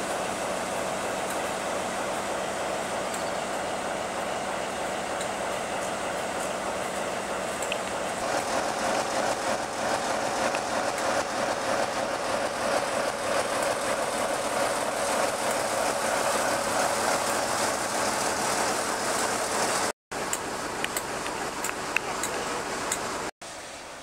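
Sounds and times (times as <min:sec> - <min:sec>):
diesel locomotive idling: 0:00.0 - 0:24.0.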